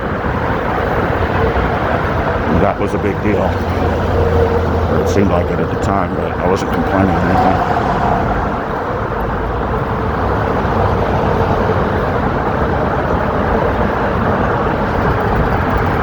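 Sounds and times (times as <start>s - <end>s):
motor traffic on a bridge: 0.0s - 16.0s.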